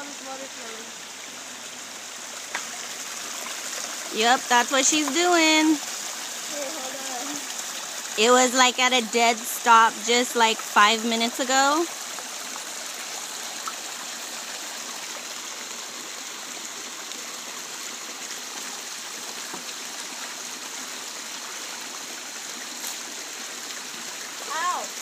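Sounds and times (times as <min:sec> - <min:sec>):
creek water running over rocks: 0:00.0 - 0:25.0.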